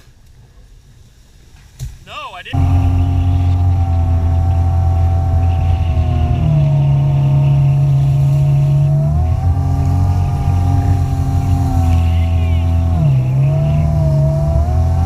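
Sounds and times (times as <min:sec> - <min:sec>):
jet ski engine running: 0:02.6 - 0:15.0.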